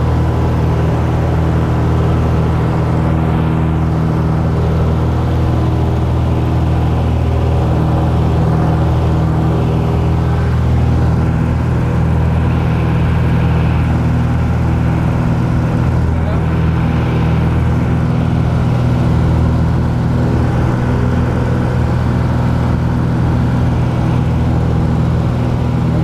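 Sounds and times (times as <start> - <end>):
light aircraft engine and propeller droning: 0.0 - 26.0.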